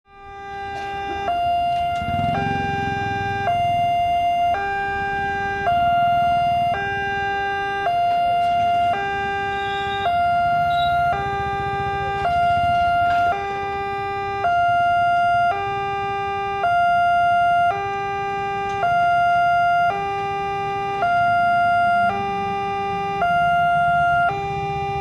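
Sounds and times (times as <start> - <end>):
two-tone level crossing siren: 0.1 - 25.0.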